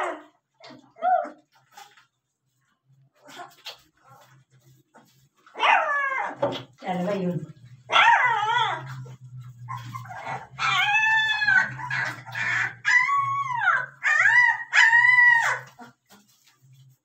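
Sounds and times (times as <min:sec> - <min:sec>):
puppies whining: 0:00.0 - 0:02.2, 0:03.1 - 0:06.8, 0:07.9 - 0:17.0
faint low hum: 0:00.1 - 0:17.0.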